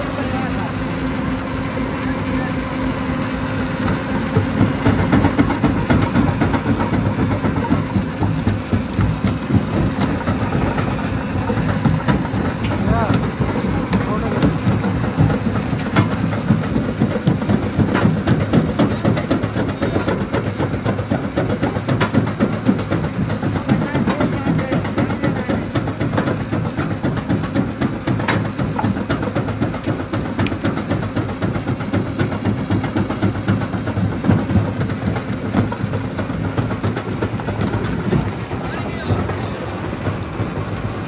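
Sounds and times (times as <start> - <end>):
stone crusher machine drone: 0.0 - 41.0.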